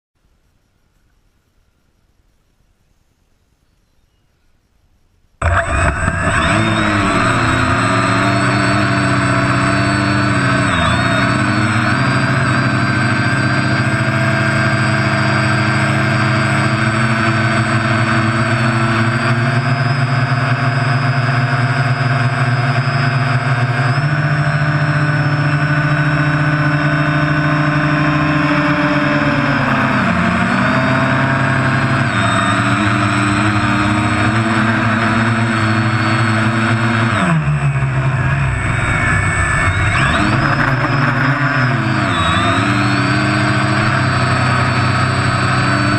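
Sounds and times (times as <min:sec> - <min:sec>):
drone motors and propellers whining: 0:05.4 - 0:45.9.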